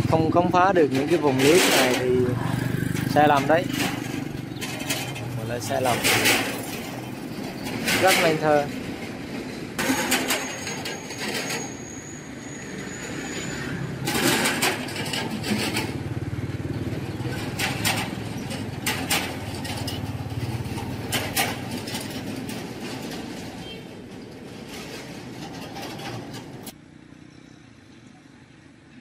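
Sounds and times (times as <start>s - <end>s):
outdoor noise: 0.0s - 29.0s
vehicle engine humming: 0.0s - 29.0s.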